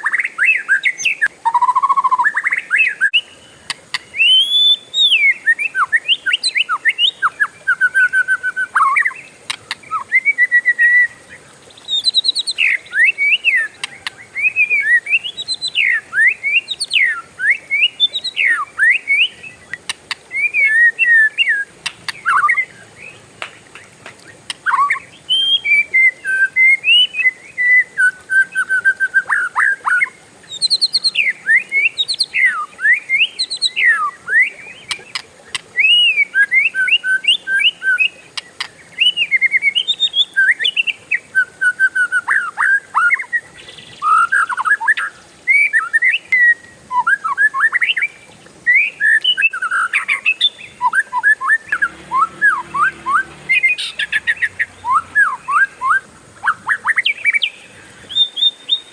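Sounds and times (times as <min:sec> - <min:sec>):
bird singing whistled song: 0:00.0 - 0:35.2, 0:35.8 - 0:58.9.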